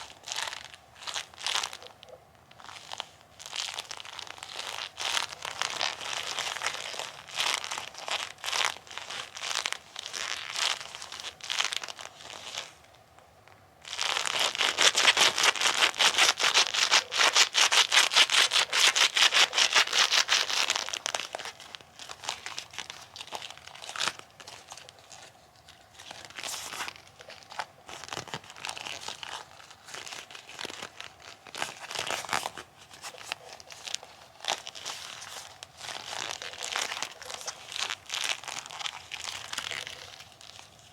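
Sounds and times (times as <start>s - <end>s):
rubber gloves rubbing together: 2.6s - 12.9s, 13.9s - 40.9s.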